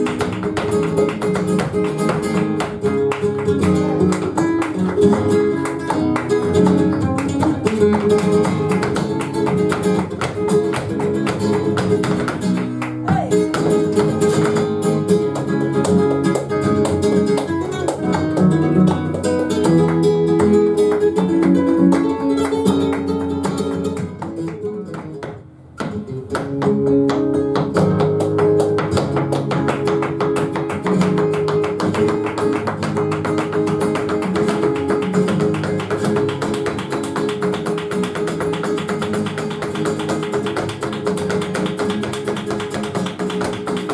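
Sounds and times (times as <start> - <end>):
flamenco guitar playing: 0.0 - 43.9
rapid percussive footwork taps: 0.0 - 43.9.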